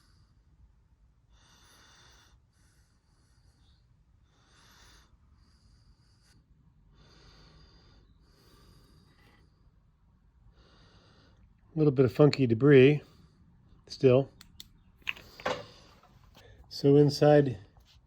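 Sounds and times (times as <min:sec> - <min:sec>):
faint breaths: 0:00.0 - 0:14.3, 0:15.1 - 0:18.0.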